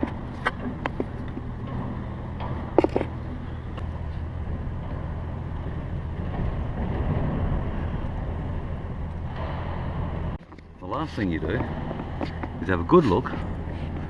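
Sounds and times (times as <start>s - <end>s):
low mechanical drone: 0.0s - 14.0s.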